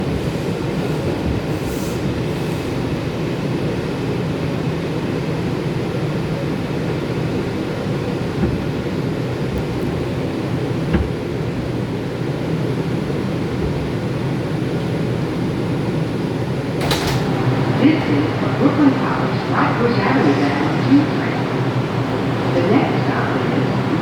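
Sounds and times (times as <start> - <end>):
subway car rumbling on track: 0.0 - 24.0.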